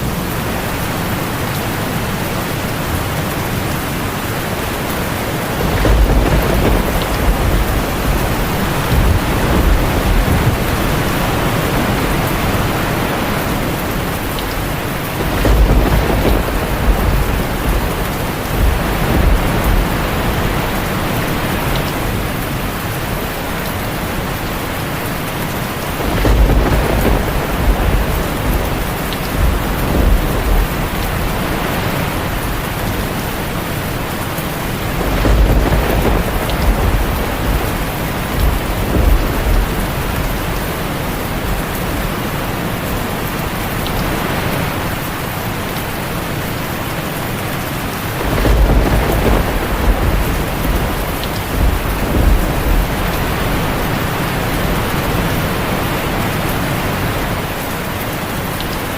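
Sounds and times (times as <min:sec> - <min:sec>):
heavy rain on a tin roof: 0:00.0 - 0:58.9
thunder rumbling: 0:02.6 - 0:45.0, 0:47.9 - 0:57.6.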